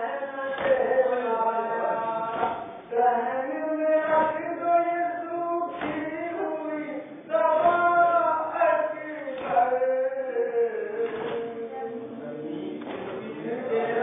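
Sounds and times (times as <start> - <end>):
men chanting together: 0.0 - 11.9, 12.7 - 14.0.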